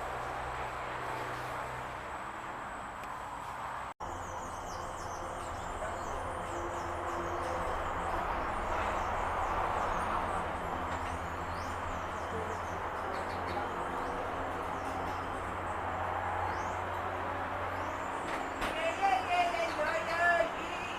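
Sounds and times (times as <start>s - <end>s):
birds chirping: 4.0s - 20.9s.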